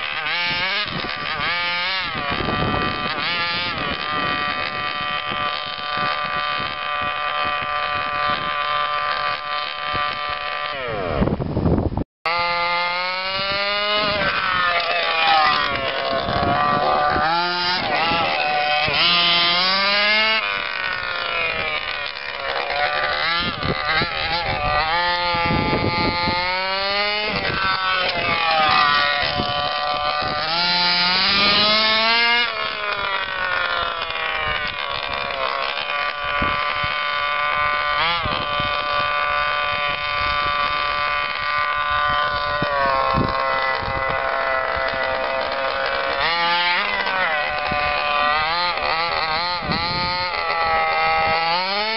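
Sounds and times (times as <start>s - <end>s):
small two-stroke engine revving: 0.0s - 51.9s.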